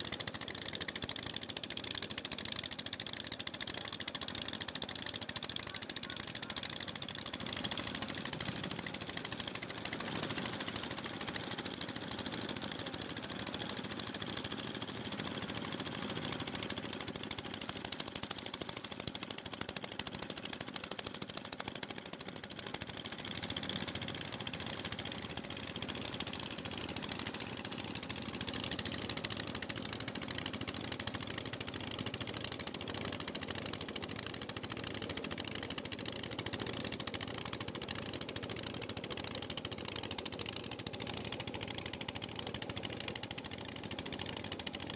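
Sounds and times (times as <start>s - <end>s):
boat diesel engine chugging: 0.0s - 44.9s.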